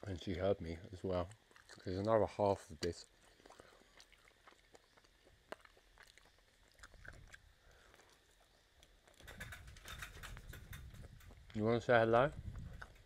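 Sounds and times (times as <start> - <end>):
chewing meat: 0.8 - 11.6, 12.3 - 13.0.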